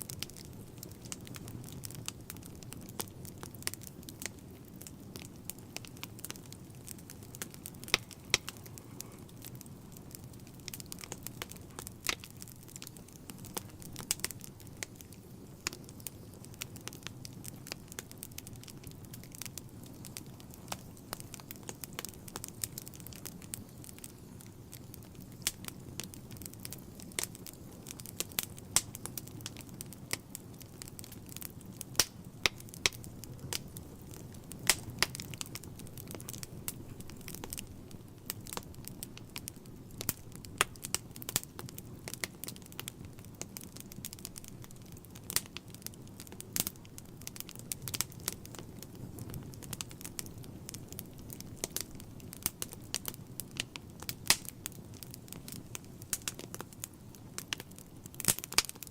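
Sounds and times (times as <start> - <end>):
burning logs crackling and popping: 0.0 - 58.9
flames roaring low: 0.0 - 58.9.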